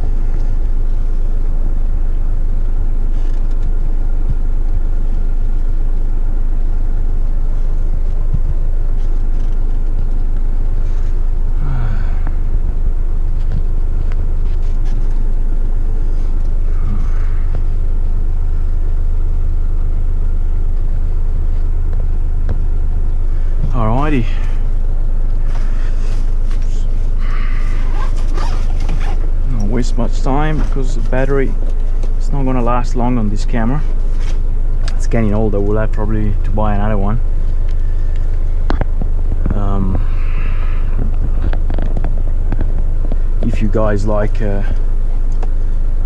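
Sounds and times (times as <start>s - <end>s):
truck diesel engine droning: 0.0s - 46.0s.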